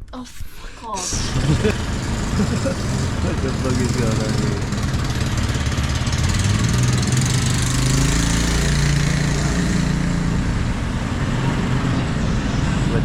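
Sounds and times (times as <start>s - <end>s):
motor engine running: 1.0s - 13.0s.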